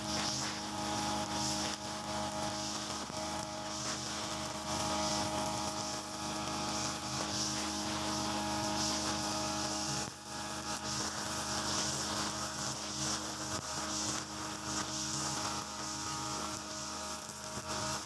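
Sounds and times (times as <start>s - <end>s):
brush cutter running: 0.0s - 18.0s
trimmer line cutting grass: 0.0s - 18.0s.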